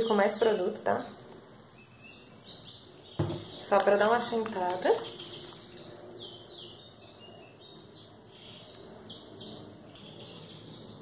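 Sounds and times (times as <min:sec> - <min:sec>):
falling bird chirps: 0:01.4 - 0:11.0.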